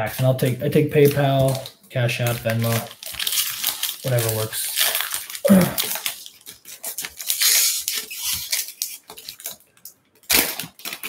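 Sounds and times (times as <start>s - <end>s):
foil wrapper crinkling: 0.1s - 11.0s.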